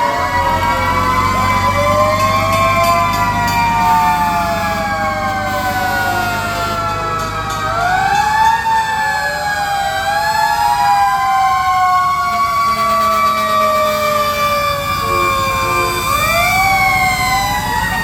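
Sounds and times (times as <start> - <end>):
fire truck sirens wailing: 0.0 - 18.0
truck engine rumbling: 0.0 - 18.0.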